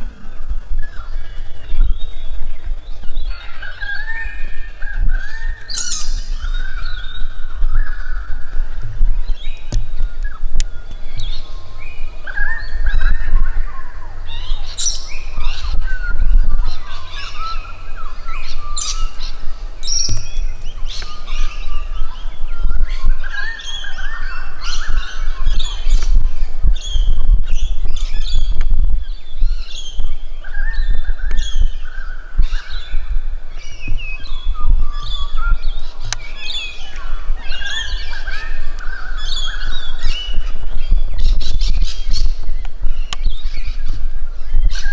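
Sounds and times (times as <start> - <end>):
birds calling and chirping: 0.0 - 44.9.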